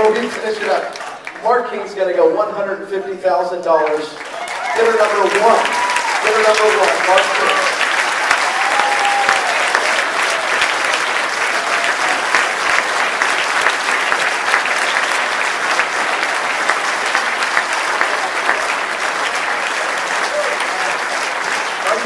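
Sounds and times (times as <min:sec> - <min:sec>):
audience applauding: 0:00.0 - 0:01.9, 0:03.8 - 0:22.0.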